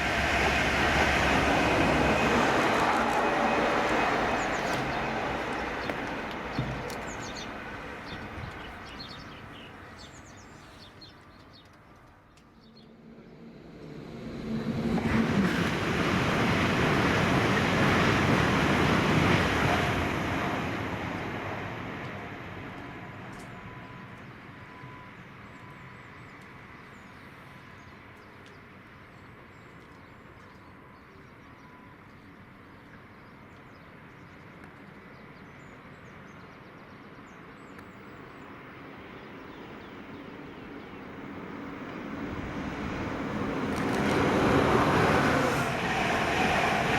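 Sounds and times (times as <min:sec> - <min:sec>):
train passing at speed: 0:00.0 - 0:11.4, 0:12.2 - 0:29.6, 0:30.2 - 0:46.9.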